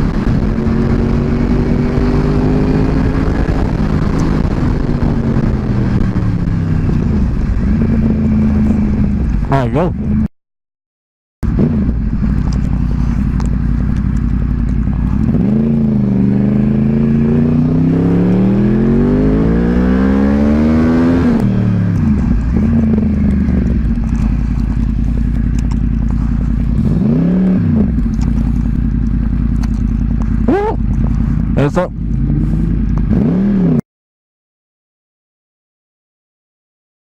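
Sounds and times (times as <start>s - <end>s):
motorcycle engine running: 0.0s - 10.3s, 11.4s - 33.8s.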